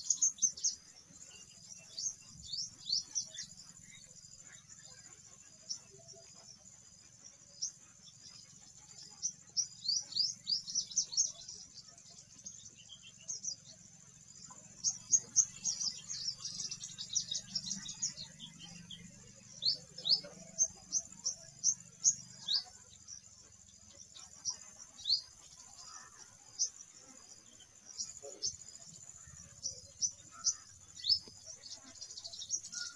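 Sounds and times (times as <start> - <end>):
bird chirping: 0.0 - 32.9.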